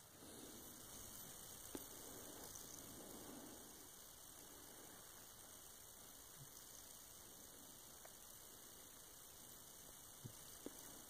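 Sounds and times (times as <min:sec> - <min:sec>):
faint steady hiss and hum: 0:00.0 - 0:11.0.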